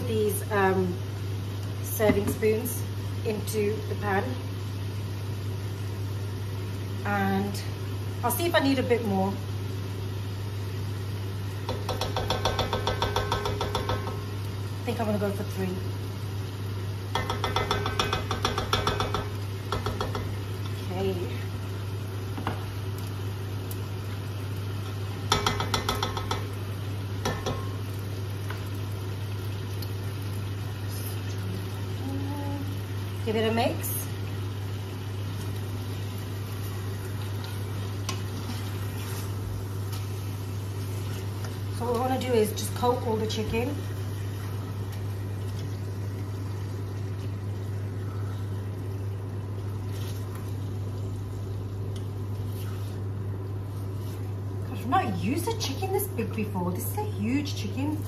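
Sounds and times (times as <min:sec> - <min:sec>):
soft sizzling in a pot: 0:00.0 - 0:58.0.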